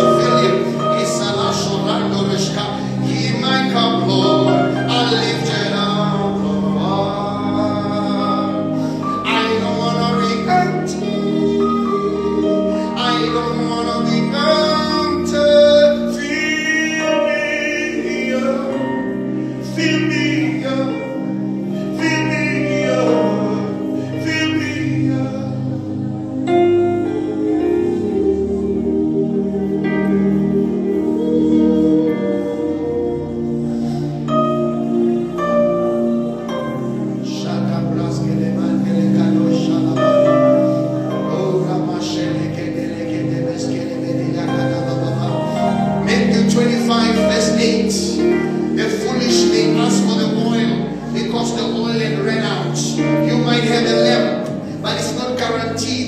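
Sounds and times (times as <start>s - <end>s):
person singing with vibrato: 0.0s - 56.0s
sustained keyboard chords: 0.0s - 56.0s.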